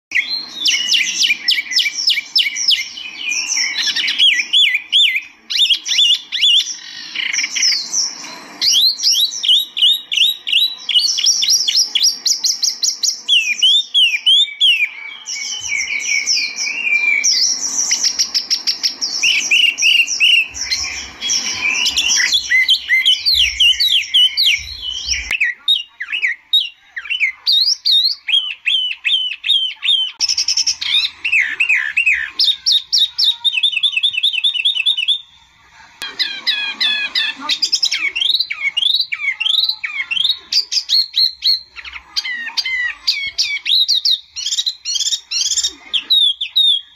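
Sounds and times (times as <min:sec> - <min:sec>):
songbird singing: 0:00.1 - 0:46.9.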